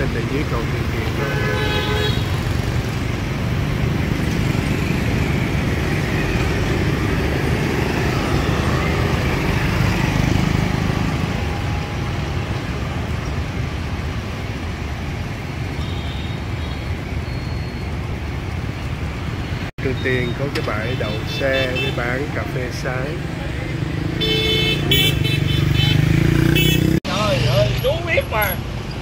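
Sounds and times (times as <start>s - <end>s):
motorbikes passing: 0.0s - 29.0s.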